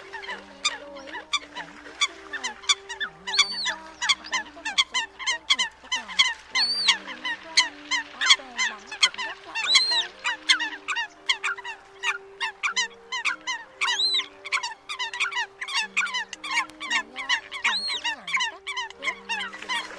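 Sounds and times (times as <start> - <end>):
coots calling: 0.0 - 19.9.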